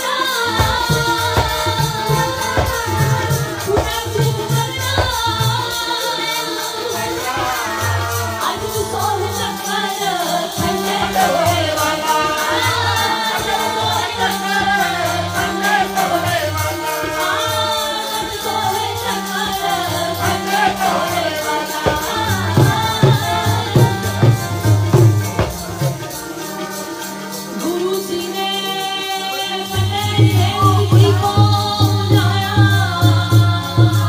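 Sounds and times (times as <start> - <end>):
woman singing: 0.0 - 25.6, 27.2 - 34.0
harmonium held notes: 0.0 - 34.0
tabla drumming: 0.0 - 34.0.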